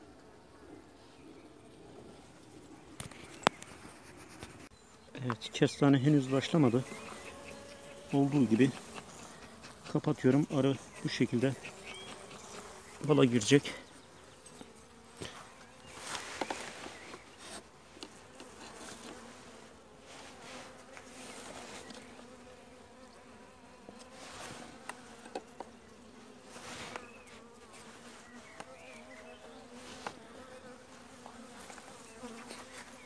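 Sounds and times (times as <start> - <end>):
bees buzzing: 2.2 - 33.0
knocks and rustles of hive: 6.2 - 33.0.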